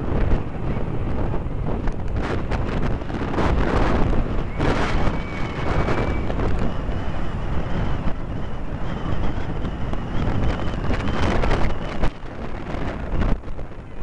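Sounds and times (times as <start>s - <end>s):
jet engines rumbling overhead: 0.0s - 14.0s
wind buffeting microphone: 0.0s - 14.0s.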